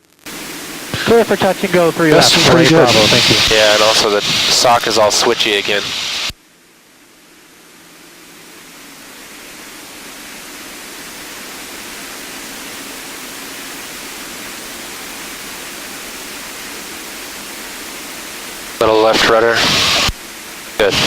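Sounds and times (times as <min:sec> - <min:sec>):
aircraft cockpit engine hiss: 0:00.3 - 0:21.0.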